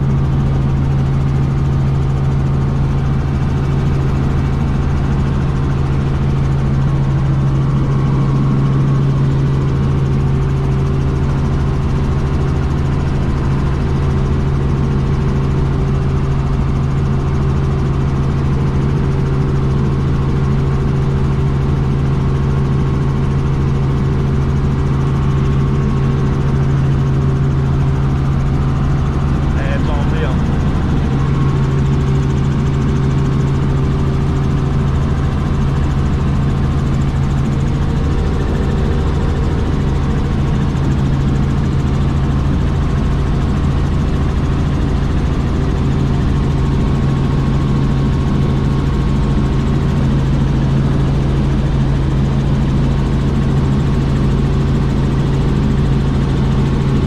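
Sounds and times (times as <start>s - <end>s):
helicopter engine and rotor hum: 0.0s - 57.0s.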